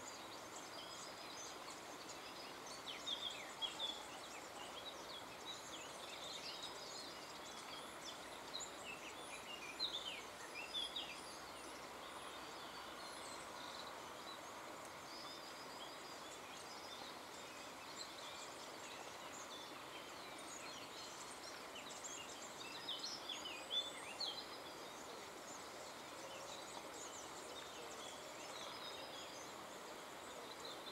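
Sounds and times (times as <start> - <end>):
songbirds chirping: 0.0 - 30.9
steady background hiss: 0.0 - 30.9.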